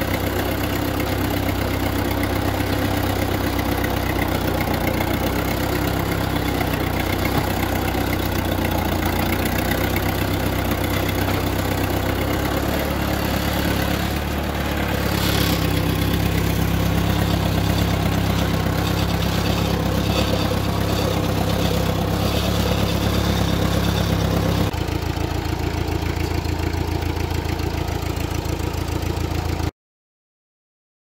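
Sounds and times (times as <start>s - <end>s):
quieter lower engine running: 0.0s - 29.6s
tractor engine running: 0.0s - 29.7s.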